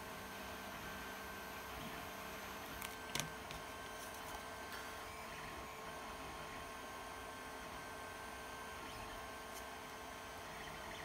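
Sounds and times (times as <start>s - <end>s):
thin electrical hum: 0.0s - 11.0s.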